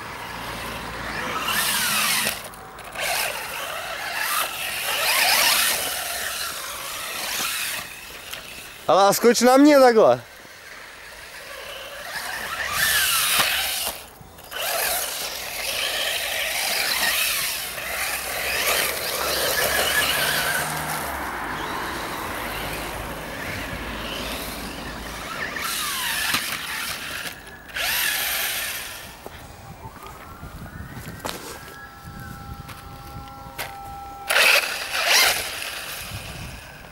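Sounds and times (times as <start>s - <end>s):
rc car motor whine: 0.0s - 36.9s.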